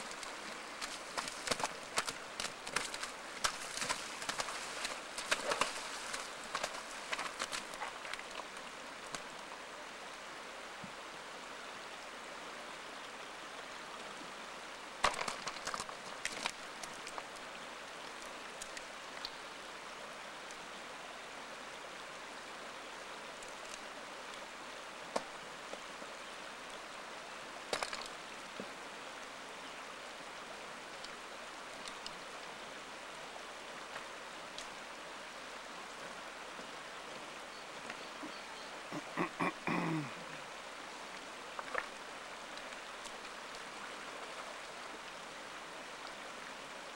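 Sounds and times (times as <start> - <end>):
creek running over gravel: 0.0 - 46.9.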